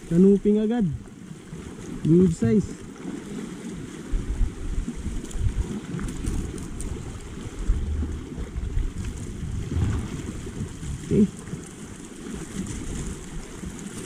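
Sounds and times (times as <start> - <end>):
small waves washing on rocks: 0.0 - 14.0
wind rumbling on microphone: 0.0 - 14.0.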